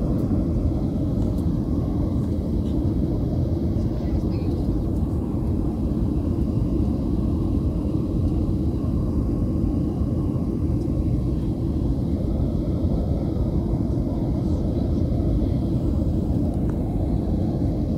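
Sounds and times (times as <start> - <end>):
jet engines rumbling: 0.0 - 17.9
rushing airflow: 0.0 - 17.9.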